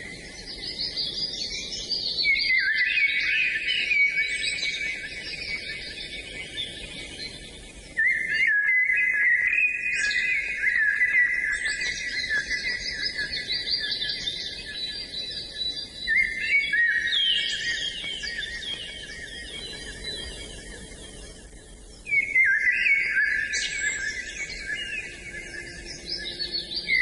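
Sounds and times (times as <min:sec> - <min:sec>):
songbirds chirping and singing: 0:00.0 - 0:27.0.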